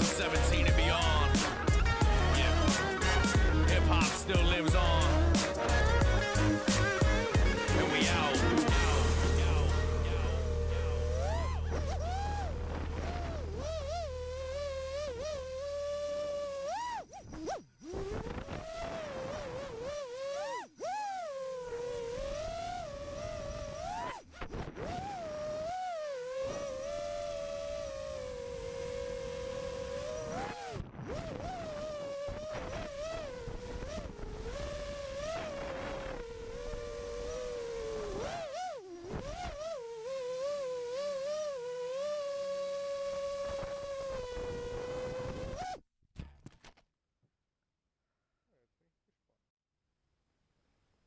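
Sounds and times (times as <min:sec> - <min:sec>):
drone motors whining: 0:00.0 - 0:45.8.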